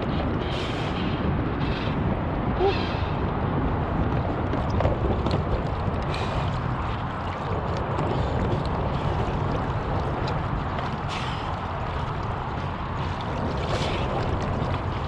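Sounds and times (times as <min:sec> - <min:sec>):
water against kayak hull: 0:00.0 - 0:15.0
wind rumble on microphone: 0:00.0 - 0:15.0.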